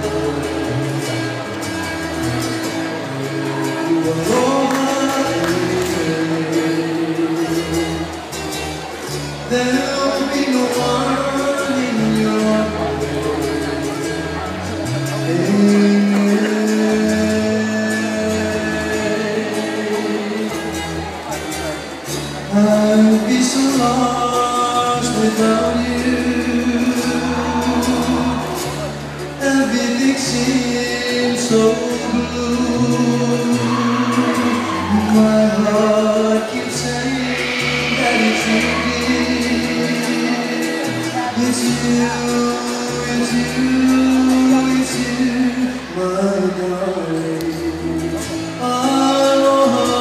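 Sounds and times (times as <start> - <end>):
person singing: 0.0 - 8.5, 9.2 - 21.6, 22.5 - 50.0
steady bass line: 0.0 - 50.0.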